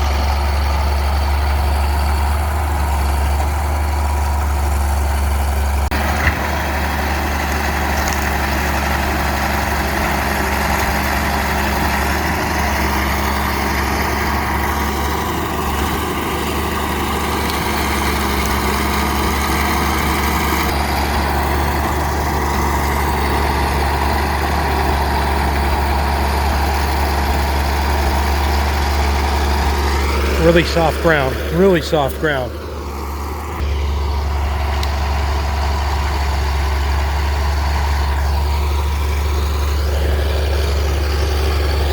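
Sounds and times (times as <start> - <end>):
diesel engine humming: 0.0 - 41.9.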